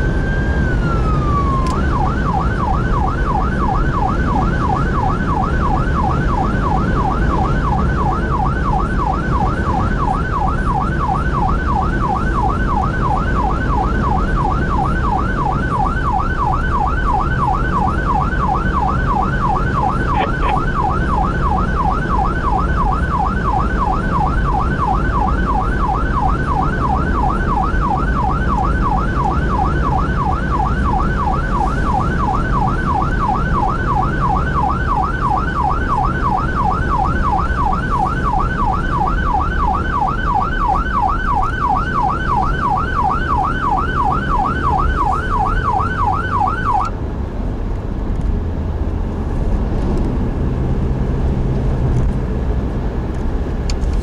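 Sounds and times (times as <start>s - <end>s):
siren yelp wail: 0.0s - 47.0s
engine and road rumble: 0.0s - 54.0s.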